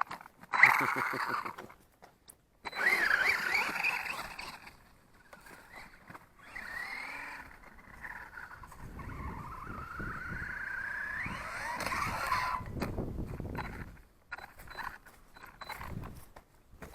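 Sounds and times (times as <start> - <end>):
rc truck electric motor whining: 2.6 - 16.9.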